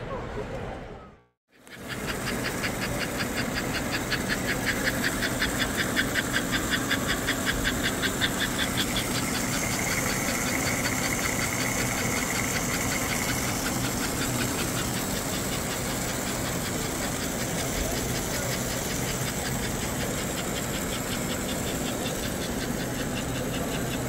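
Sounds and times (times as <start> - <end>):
small motor running: 1.5 - 24.0
fast even ticking: 1.6 - 24.0.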